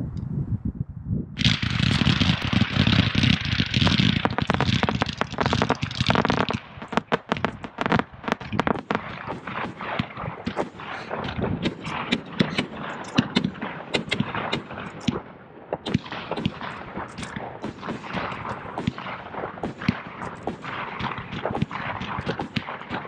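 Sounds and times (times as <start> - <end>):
firework crackling: 1.4 - 15.3, 15.9 - 23.0
firework bangs: 1.4 - 23.0.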